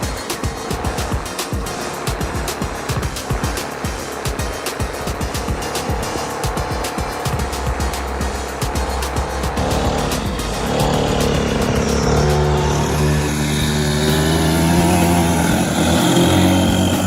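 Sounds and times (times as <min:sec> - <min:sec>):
small off-road engines accelerating: 0:00.0 - 0:17.0.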